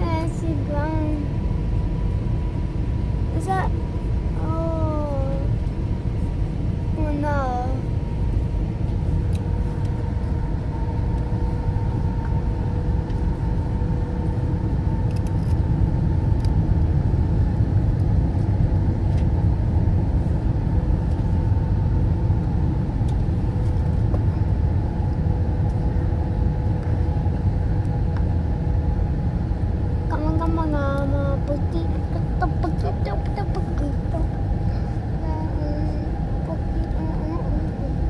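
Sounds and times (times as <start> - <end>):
engine and air rumble in cabin: 0.0 - 38.0
high faint whine: 0.0 - 38.0.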